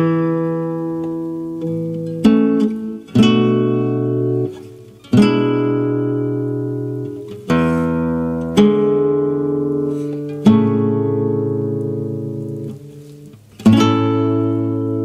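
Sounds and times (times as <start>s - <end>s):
classical guitar chords: 0.0s - 15.0s.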